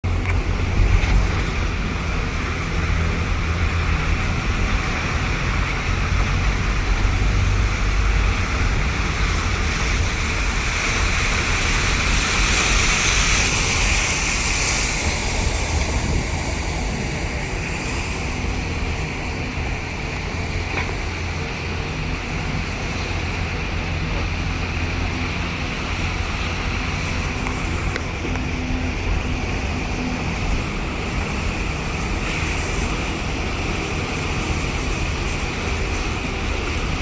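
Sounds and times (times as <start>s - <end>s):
waterfall roaring: 0.0s - 37.0s
wind buffeting microphone: 0.0s - 37.0s.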